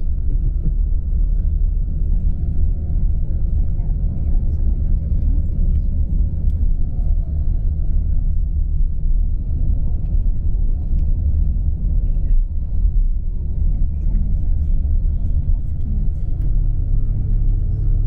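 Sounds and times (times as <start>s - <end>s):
bus engine and tyres rumbling: 0.0s - 18.0s.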